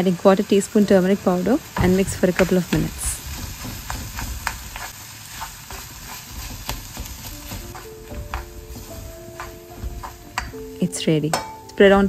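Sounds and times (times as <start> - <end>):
food sizzling in a pan: 0.0 - 12.0
spatula scraping and tapping pan: 1.8 - 11.6.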